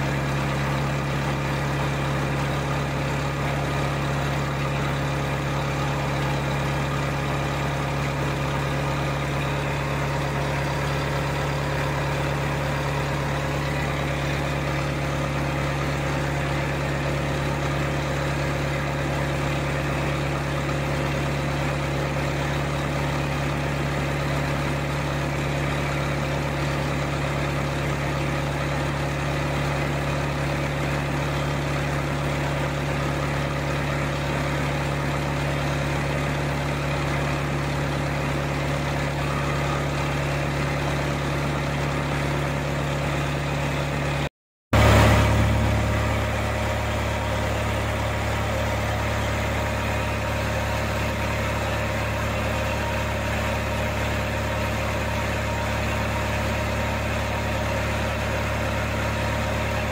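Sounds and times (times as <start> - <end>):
diesel boat engine running: 0.0 - 59.9.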